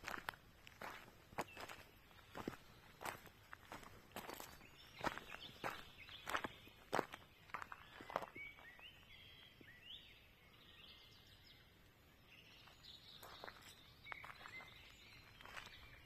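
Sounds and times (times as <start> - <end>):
bird chirps: 0.9 - 16.0.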